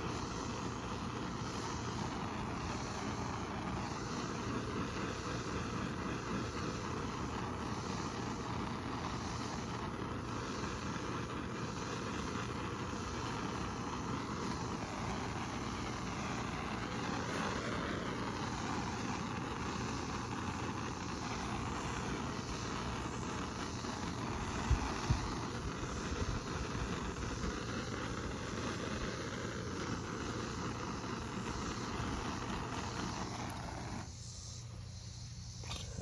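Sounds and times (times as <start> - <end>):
gas torch flame hissing: 0.0 - 36.0.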